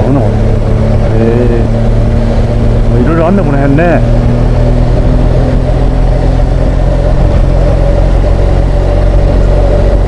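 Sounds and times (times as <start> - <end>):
motorcycle engine cruising: 0.0 - 10.0
road noise: 0.0 - 10.0.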